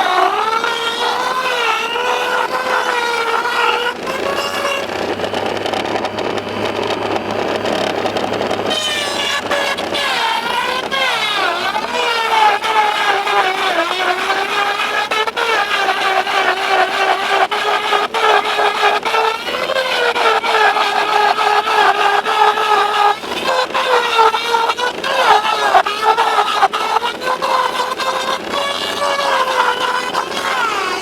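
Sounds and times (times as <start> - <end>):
shredder motor whining: 0.0 - 31.0
vacuum whining: 0.0 - 31.0.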